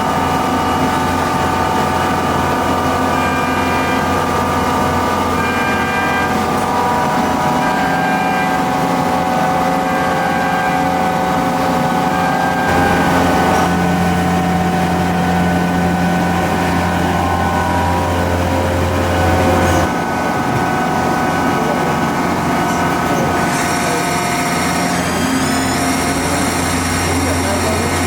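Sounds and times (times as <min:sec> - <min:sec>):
deep hum: 0:00.0 - 0:28.0
lathe humming and whining: 0:00.0 - 0:28.0.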